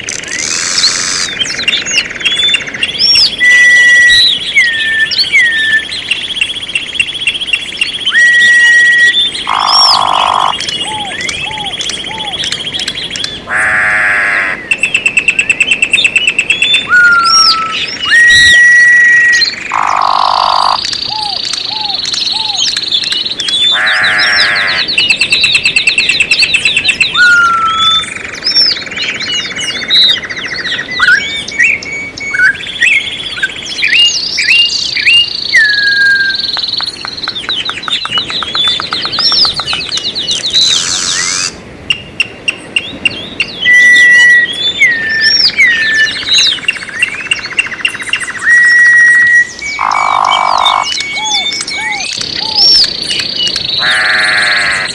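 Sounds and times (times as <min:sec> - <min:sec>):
raspy bird calls: 0:00.0 - 0:41.6, 0:43.4 - 0:54.9
songbirds singing: 0:00.0 - 0:54.9.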